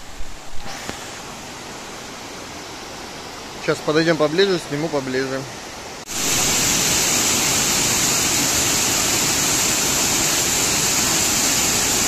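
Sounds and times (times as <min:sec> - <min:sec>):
waterfall rushing: 0:00.1 - 0:12.0.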